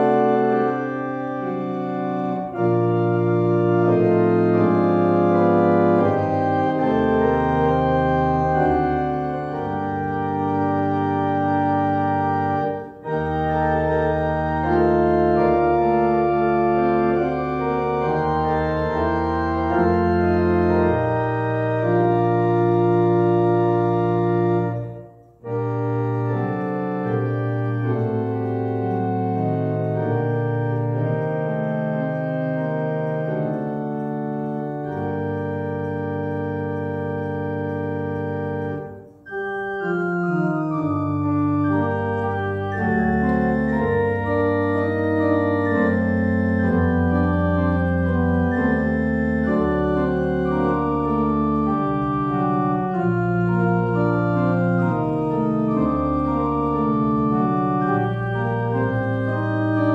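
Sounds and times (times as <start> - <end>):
church organ chords: 0.0 - 59.9.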